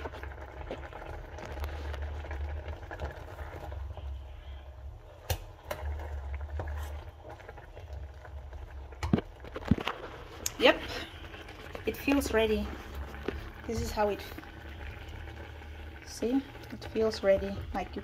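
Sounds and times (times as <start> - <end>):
spoon stirring in saucepan: 0.0 - 18.0.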